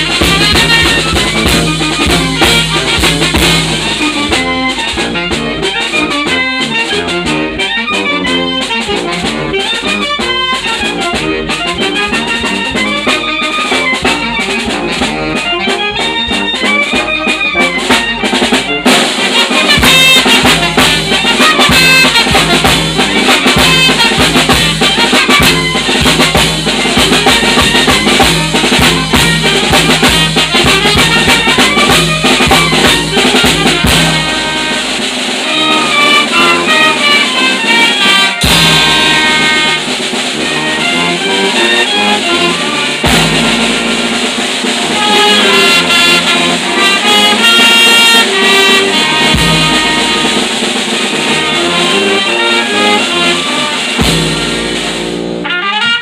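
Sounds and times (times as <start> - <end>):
drum kit steady beat: 0.0 - 7.4, 8.6 - 55.6
alto saxophone: 0.0 - 56.0
clarinet: 0.0 - 56.0
trumpets: 0.0 - 56.0.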